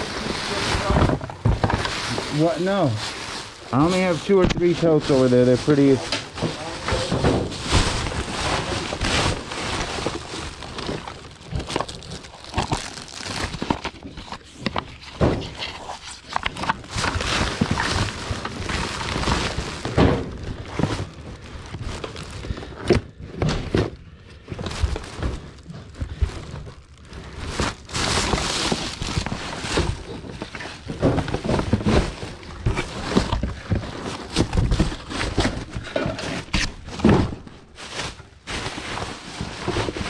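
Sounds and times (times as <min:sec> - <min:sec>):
objects knocking and clattering: 0:00.0 - 0:02.6, 0:03.3 - 0:26.8, 0:27.5 - 0:40.0.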